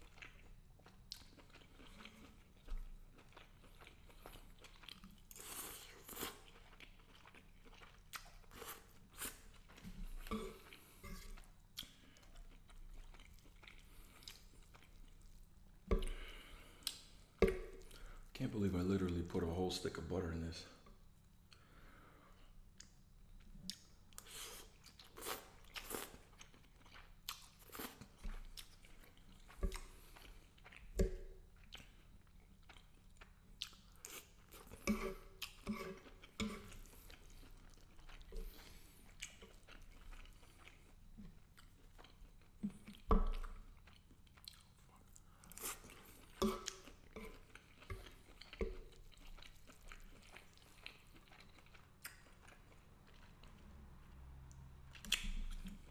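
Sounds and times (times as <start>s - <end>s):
person chewing: 0.0s - 19.6s, 21.2s - 55.9s.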